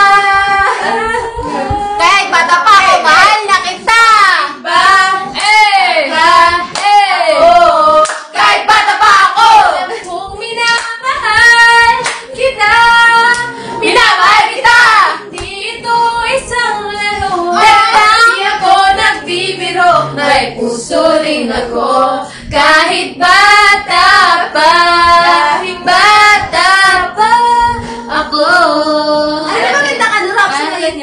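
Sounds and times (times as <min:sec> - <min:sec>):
young women singing together: 0:00.0 - 0:31.0.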